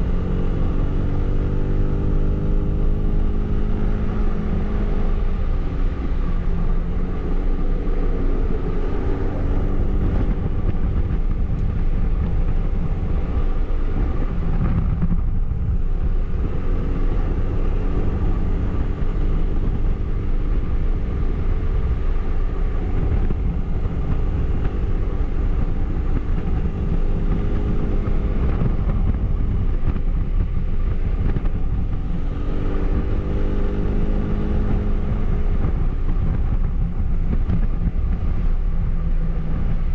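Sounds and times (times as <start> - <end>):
road rumble: 0.0 - 39.9
wind noise: 0.0 - 39.9.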